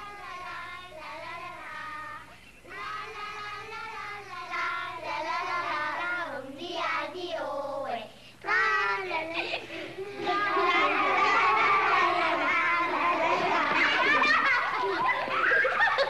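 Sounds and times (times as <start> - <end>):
child singing: 0.0 - 14.2.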